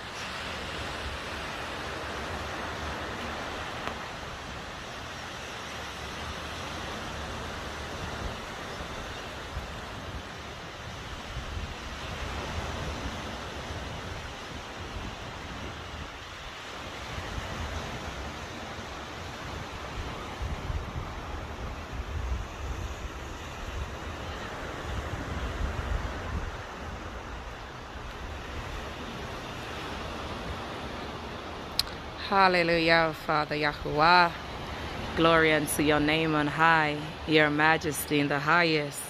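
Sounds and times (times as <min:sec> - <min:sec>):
wind buffeting microphone: 0:00.0 - 0:38.8.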